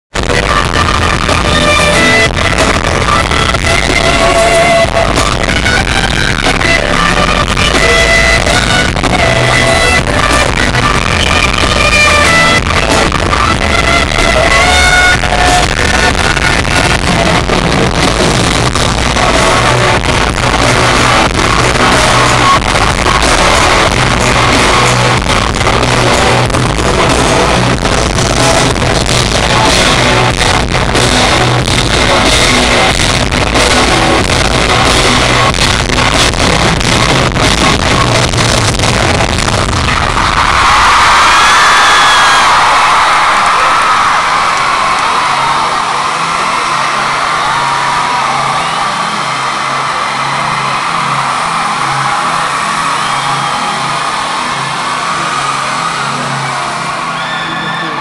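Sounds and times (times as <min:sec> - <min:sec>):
live pop-rock band: 0:00.2 - 0:58.0.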